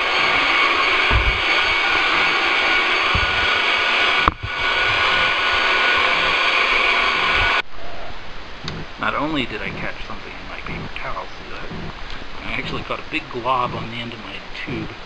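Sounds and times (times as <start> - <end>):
shop vac running: 0.0 - 7.6, 8.6 - 15.0.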